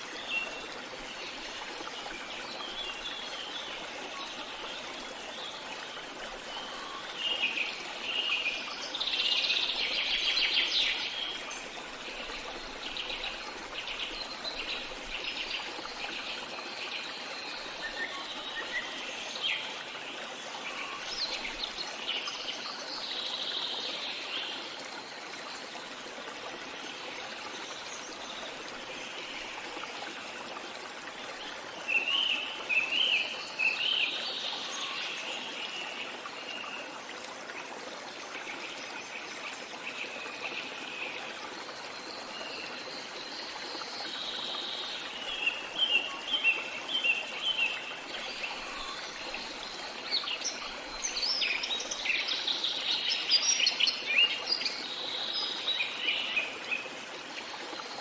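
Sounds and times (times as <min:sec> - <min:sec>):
trickling stream: 0:00.0 - 0:58.0.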